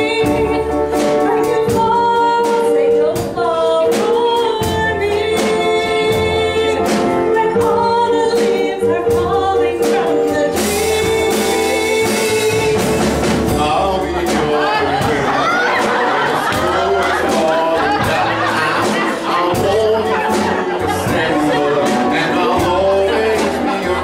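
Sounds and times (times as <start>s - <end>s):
women singing together: 0.0s - 12.9s, 13.8s - 24.0s
instrumental music with steady beat: 0.0s - 24.0s.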